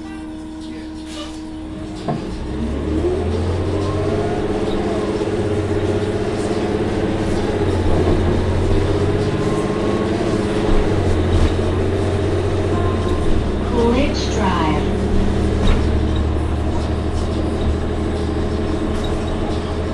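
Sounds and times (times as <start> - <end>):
bus engine pulling away: 0.0 - 19.9.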